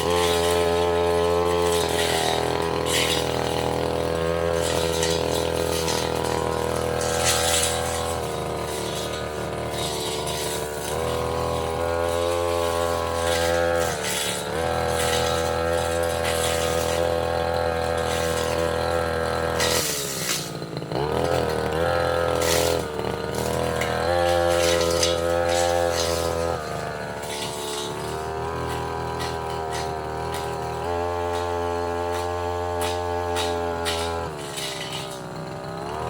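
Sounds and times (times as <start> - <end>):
brush cutter engine at high revs: 0.0 - 36.0.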